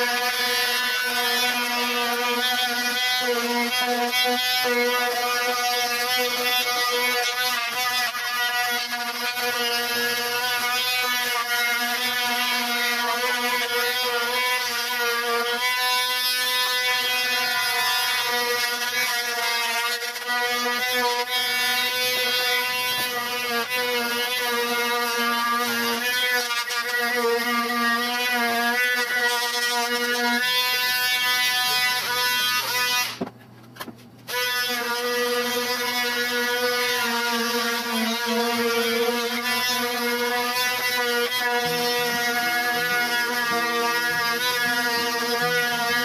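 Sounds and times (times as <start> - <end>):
electric grinder on steel: 0.0 - 33.2, 34.3 - 46.0.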